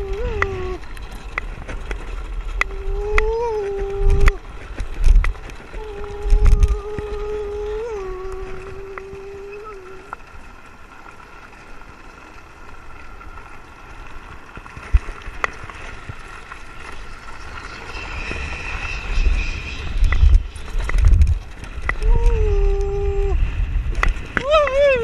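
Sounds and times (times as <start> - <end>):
steady whine: 0.0 - 25.0
wind buffeting microphone: 0.0 - 25.0.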